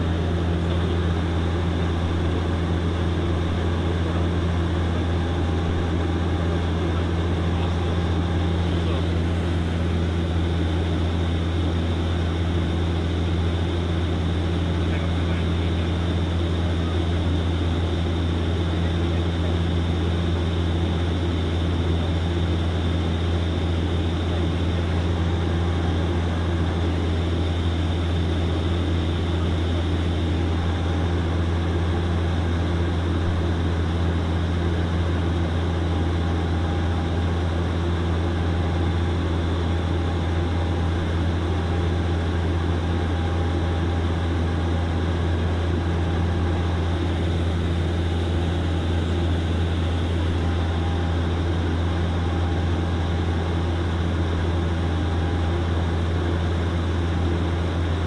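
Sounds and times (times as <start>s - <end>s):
engine and airflow rush: 0.0s - 58.0s
propeller drone: 0.0s - 58.0s.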